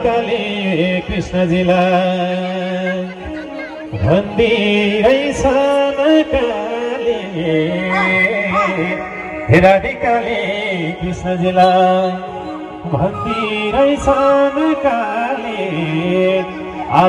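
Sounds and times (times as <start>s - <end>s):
harmonium drone: 0.0s - 17.0s
person singing melody: 0.0s - 17.0s.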